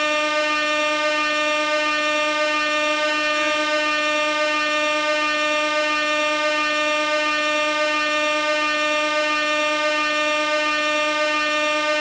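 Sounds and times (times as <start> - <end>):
air horn blast: 0.0 - 12.0.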